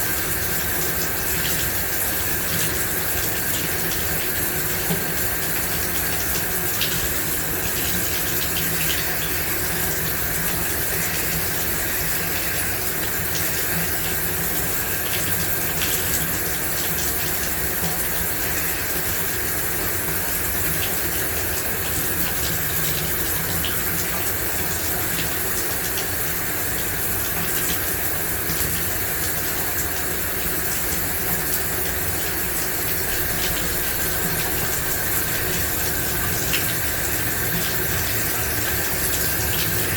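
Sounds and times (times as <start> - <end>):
shower water spraying: 0.0 - 39.9
water drips: 0.0 - 39.9.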